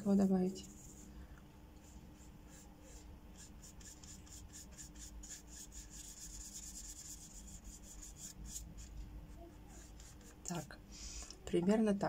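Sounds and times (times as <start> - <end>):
paintbrush brushing on paper: 0.0 - 10.7.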